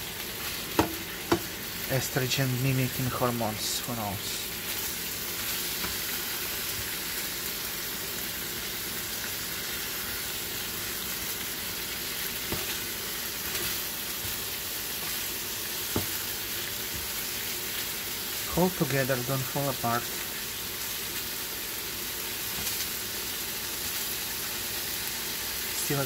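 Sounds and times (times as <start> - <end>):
beef sizzling in butter: 0.0 - 26.0.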